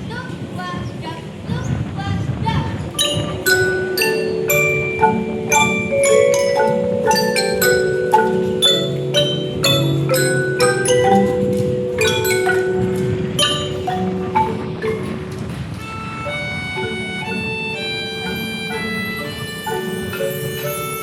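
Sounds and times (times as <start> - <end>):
mallet percussion ensemble: 2.9 - 21.0.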